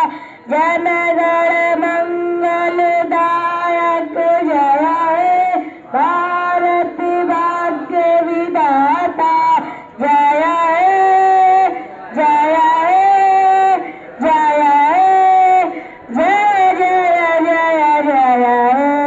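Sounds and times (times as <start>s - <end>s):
person singing long held notes: 0.0s - 19.0s.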